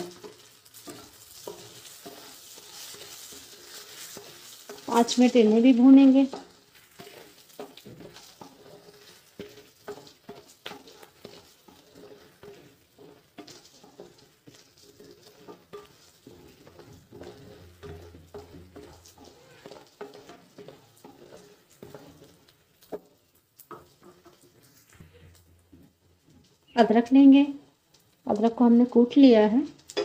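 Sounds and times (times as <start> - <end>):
quiet sizzle of oil: 0.0 - 30.0
wooden spatula stirring and scraping: 0.0 - 30.0.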